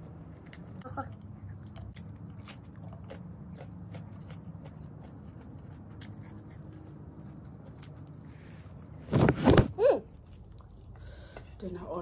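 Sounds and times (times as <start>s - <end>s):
person chewing: 0.0s - 8.9s, 10.1s - 11.4s
low background hum: 0.0s - 12.0s.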